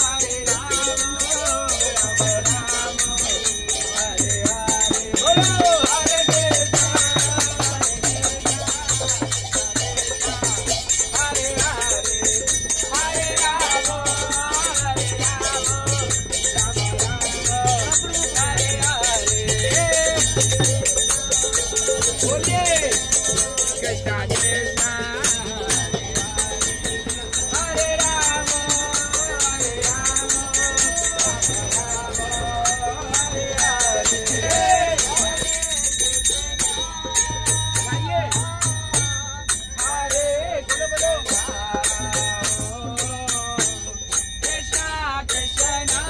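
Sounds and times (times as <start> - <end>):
small hand cymbals ringing: 0.0 - 46.0
voices chanting together: 0.0 - 46.0.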